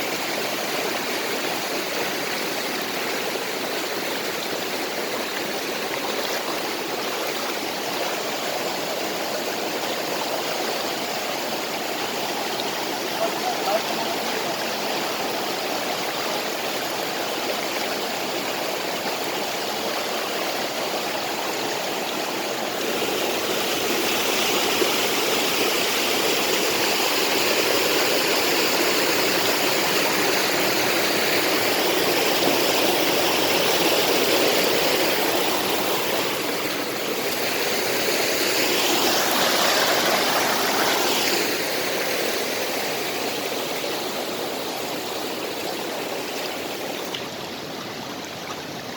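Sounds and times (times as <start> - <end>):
creek water rushing over rocks: 0.0 - 48.9.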